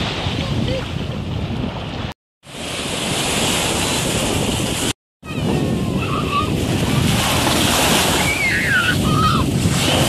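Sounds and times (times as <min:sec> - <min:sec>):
small waves washing ashore: 0:00.0 - 0:10.0
wind buffeting microphone: 0:00.0 - 0:10.0.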